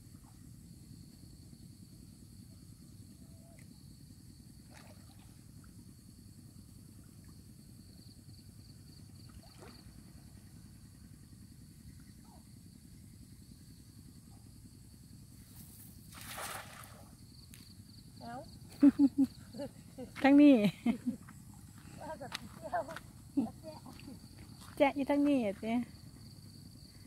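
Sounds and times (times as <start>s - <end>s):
faint low rumble: 0.0s - 27.0s.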